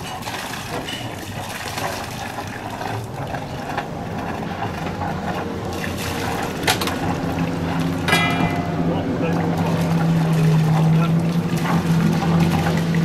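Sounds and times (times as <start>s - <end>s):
boat engine idling hum: 0.0s - 13.0s
water trickling and splashing: 0.0s - 13.0s.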